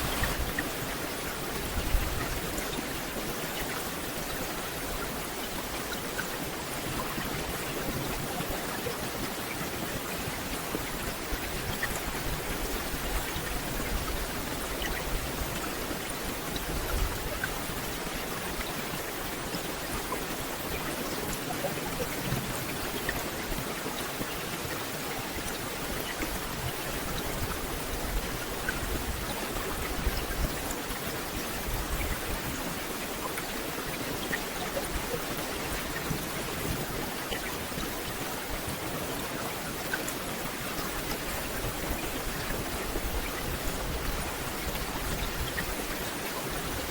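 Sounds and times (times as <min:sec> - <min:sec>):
rain on forest canopy: 0:00.0 - 0:46.9.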